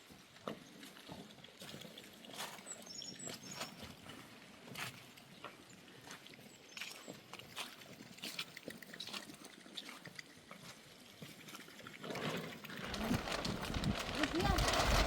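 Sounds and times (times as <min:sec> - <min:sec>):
small drips and ticks: 0:00.0 - 0:14.8.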